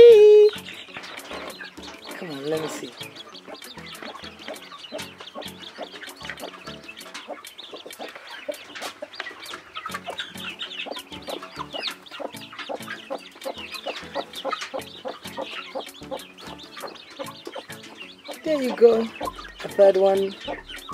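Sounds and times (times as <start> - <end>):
chicks peeping: 0.0 - 20.9.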